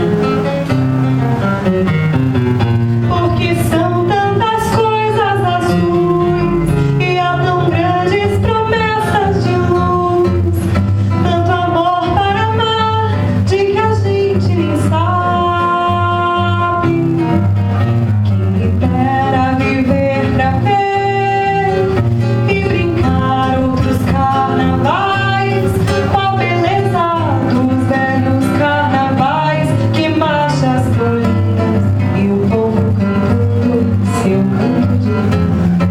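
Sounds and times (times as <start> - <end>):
nylon-string guitar chords: 0.0 - 35.9
woman singing: 2.8 - 17.6, 18.3 - 35.9.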